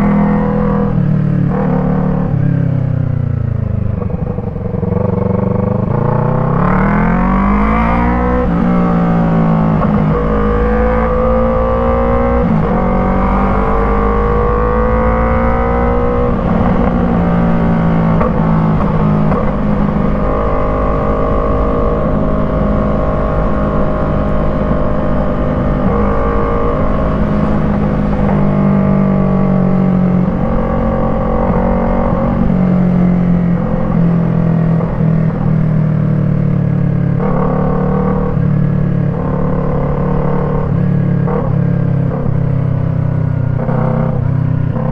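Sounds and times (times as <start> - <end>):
motorcycle accelerating and shifting: 0.0 - 44.9.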